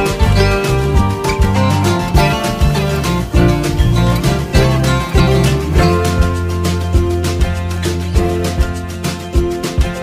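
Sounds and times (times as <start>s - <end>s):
music with plucked guitar and bass: 0.0s - 10.0s.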